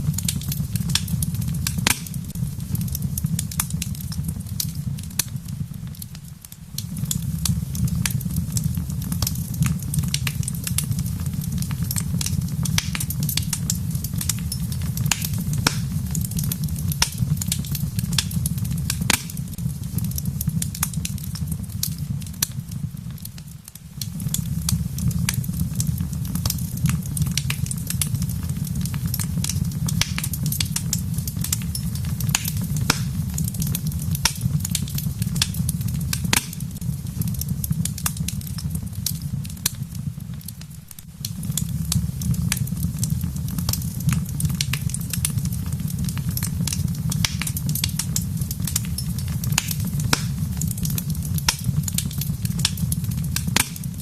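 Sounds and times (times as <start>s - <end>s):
fire pops and snaps: 0.0s - 54.0s
wood fire crackling: 0.0s - 54.0s.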